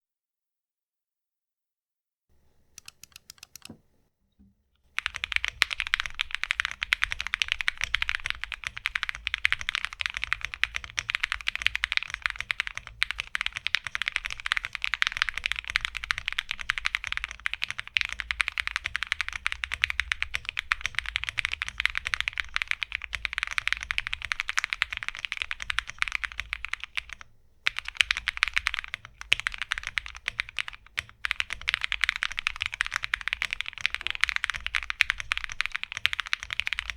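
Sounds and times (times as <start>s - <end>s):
fast typing on mechanical keyboard: 2.8s - 3.8s, 4.9s - 36.9s.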